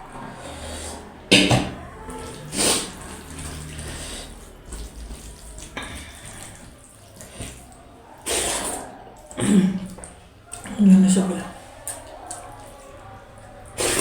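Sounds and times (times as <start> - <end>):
wet squelching of food: 0.0 - 14.0
soft smacking noises: 1.3 - 14.0.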